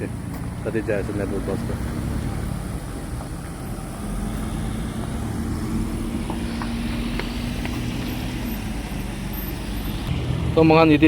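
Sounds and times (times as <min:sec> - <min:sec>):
large vehicle engine drone: 0:00.0 - 0:11.0.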